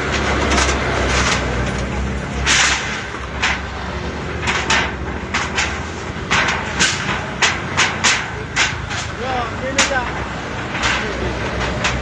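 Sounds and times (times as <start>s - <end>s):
low rumble of road traffic: 0.0s - 12.0s
sharp knocks and bangs of wreckage: 0.0s - 12.0s.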